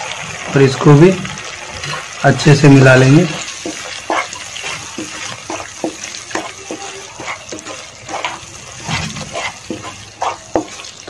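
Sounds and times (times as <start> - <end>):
spatula stirring thick sauce in pan: 0.0 - 11.0.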